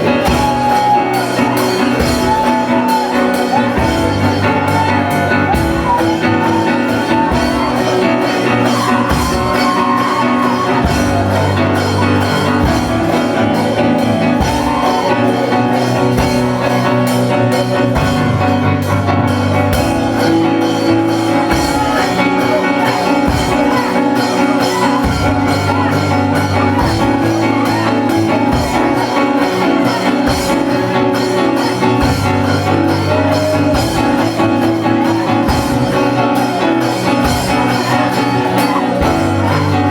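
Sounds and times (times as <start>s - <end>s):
drum kit beat: 0.0s - 39.9s
live church praise band: 0.0s - 39.9s
sustained keyboard or guitar chords: 0.0s - 39.9s.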